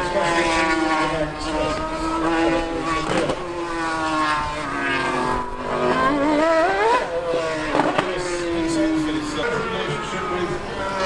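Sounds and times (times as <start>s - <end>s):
high-revving racing engines: 0.0s - 11.0s.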